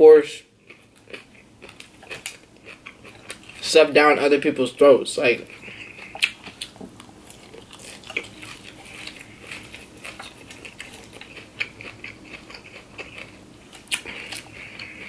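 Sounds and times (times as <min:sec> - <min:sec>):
chewing crunchy salad: 0:00.3 - 0:04.4, 0:05.1 - 0:15.0.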